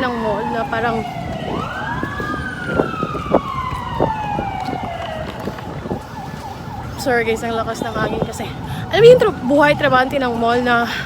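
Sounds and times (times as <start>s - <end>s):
emergency siren wailing: 0.0s - 11.0s
wind buffeting microphone: 0.0s - 11.0s.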